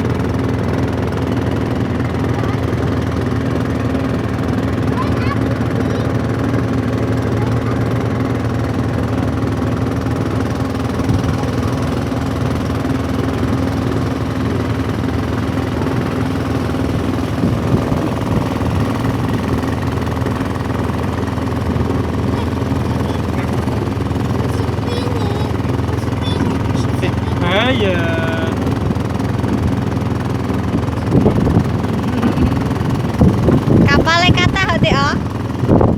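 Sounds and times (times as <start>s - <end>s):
boat engine chugging: 0.0s - 35.9s.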